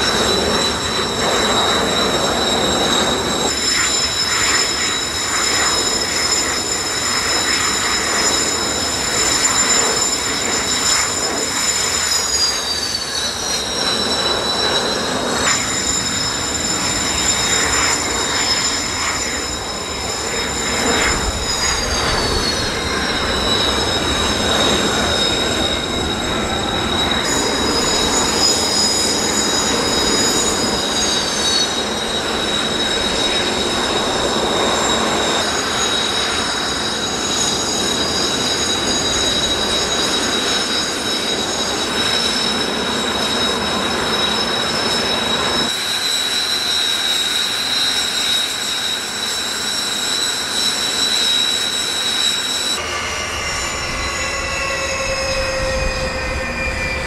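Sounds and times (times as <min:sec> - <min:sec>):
jet engines whining: 0:00.0 - 0:57.0
rushing noise: 0:00.0 - 0:57.0.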